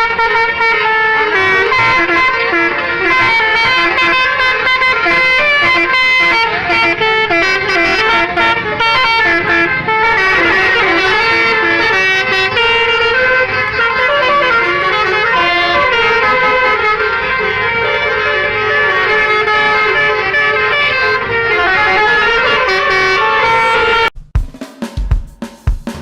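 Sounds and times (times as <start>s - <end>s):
bus musical air horns: 0.0s - 24.2s.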